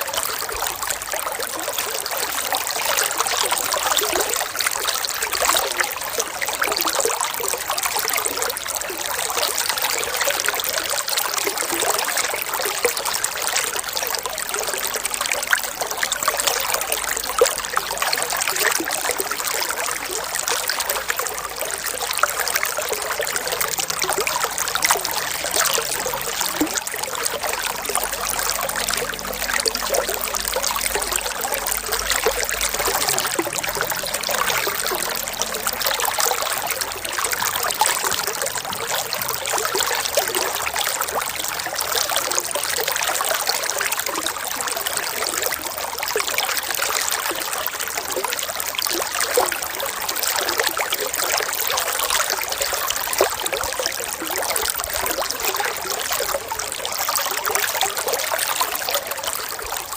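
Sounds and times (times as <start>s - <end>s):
water trickling and gurgling: 0.0s - 59.9s.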